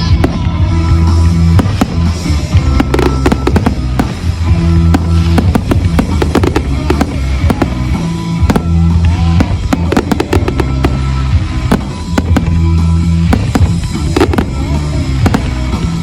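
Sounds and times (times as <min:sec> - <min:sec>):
fireworks banging and crackling: 0:00.0 - 0:16.0
music with low bass notes: 0:00.0 - 0:16.0.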